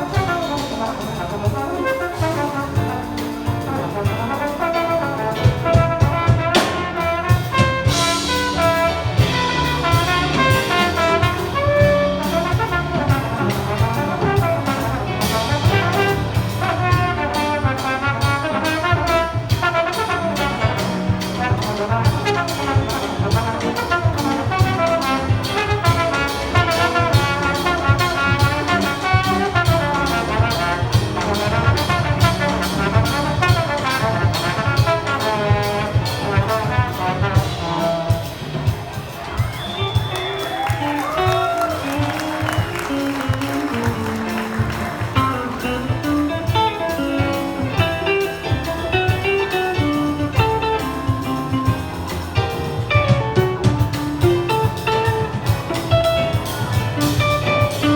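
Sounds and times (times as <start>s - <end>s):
drum kit beat: 0.0s - 57.9s
jazz big band playing: 0.0s - 57.9s
trumpets and trombones: 0.0s - 57.9s.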